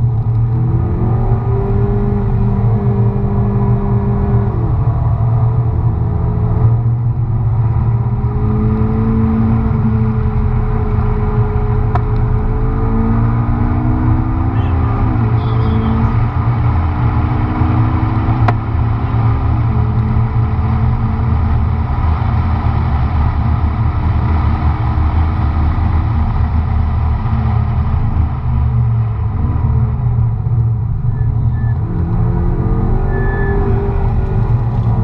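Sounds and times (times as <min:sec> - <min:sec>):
car engine revving: 0:00.0 - 0:35.0
road and wind noise: 0:00.0 - 0:35.0.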